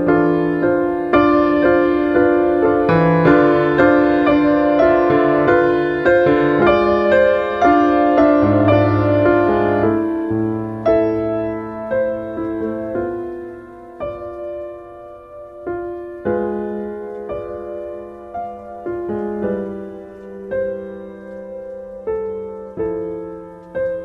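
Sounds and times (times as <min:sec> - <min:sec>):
slow solo piano: 0:00.0 - 0:24.0.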